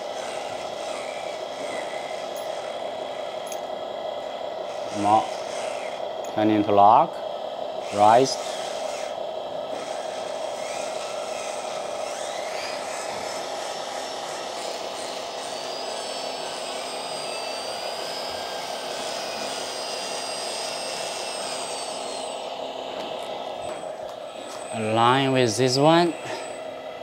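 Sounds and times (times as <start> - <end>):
thin high whine: 0.0 - 27.0
toy crane drive whirring: 0.0 - 27.0.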